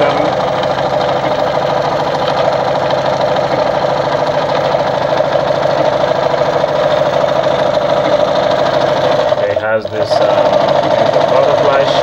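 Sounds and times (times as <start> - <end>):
electric sewing machine running: 0.0 - 12.0.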